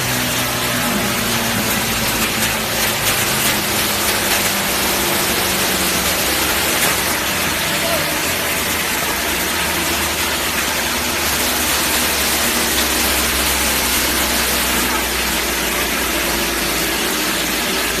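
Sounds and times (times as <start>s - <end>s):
wood mill machinery rushing: 0.0s - 18.0s.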